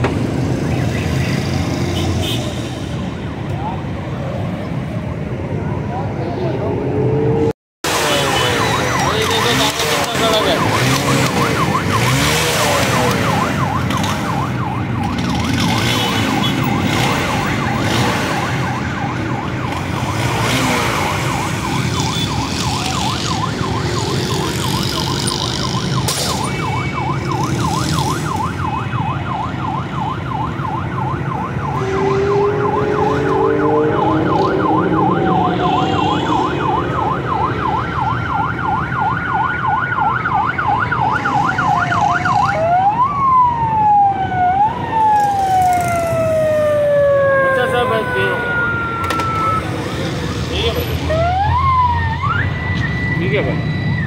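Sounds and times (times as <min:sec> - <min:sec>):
electronic siren yelping and wailing: 0:00.0 - 0:02.1, 0:03.4 - 0:54.0.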